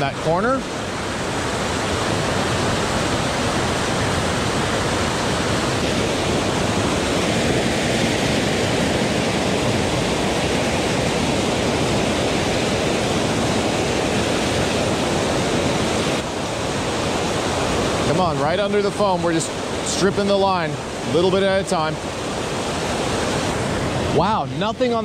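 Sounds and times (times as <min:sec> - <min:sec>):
waterfall rushing into pool: 0:00.0 - 0:25.0.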